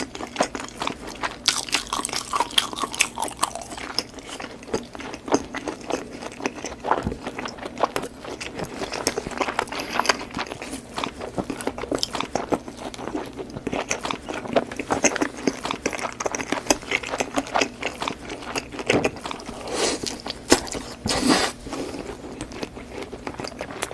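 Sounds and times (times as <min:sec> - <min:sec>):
crunching and chewing snacks: 0:00.0 - 0:23.9.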